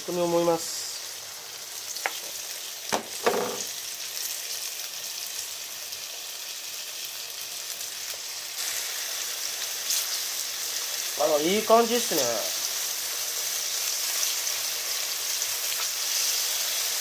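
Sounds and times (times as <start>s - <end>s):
tofu sizzling in oil: 0.0s - 17.0s.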